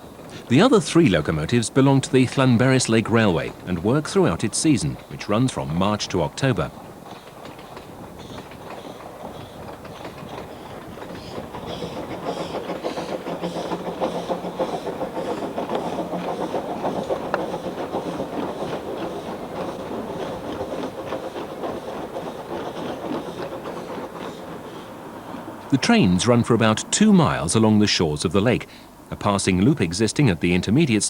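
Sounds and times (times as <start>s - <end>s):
steam train running: 0.0s - 31.0s.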